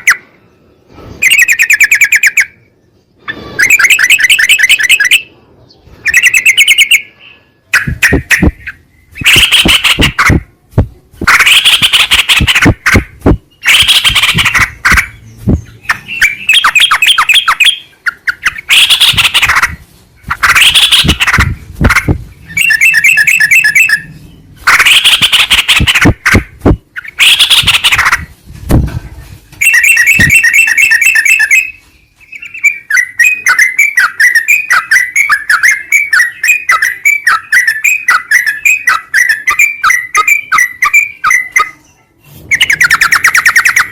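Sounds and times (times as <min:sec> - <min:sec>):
bird harsh chattering: 0:01.2 - 0:02.6, 0:03.2 - 0:05.3, 0:06.0 - 0:07.1, 0:07.7 - 0:10.6, 0:11.2 - 0:28.4, 0:29.6 - 0:41.8, 0:42.5 - 0:43.9
bird fast repeated notes: 0:01.2 - 0:05.3, 0:06.0 - 0:28.4, 0:29.6 - 0:41.8, 0:42.4 - 0:43.9
bird rapid trills: 0:03.3 - 0:05.2, 0:07.7 - 0:10.5, 0:11.1 - 0:28.4, 0:29.6 - 0:41.8, 0:42.5 - 0:43.9.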